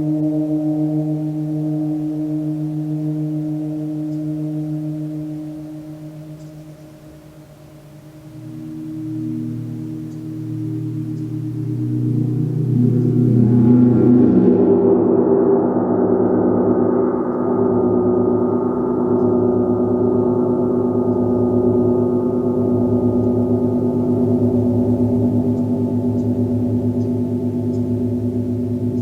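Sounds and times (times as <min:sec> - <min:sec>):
gong ringing: 0:00.0 - 0:29.0.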